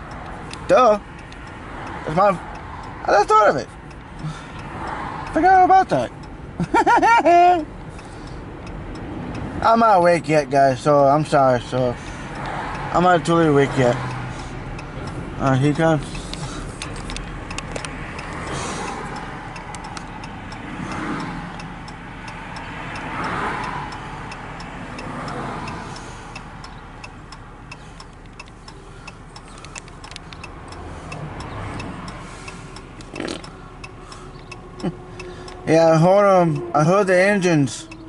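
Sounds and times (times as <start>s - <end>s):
steady regular ticking: 0.0s - 38.0s.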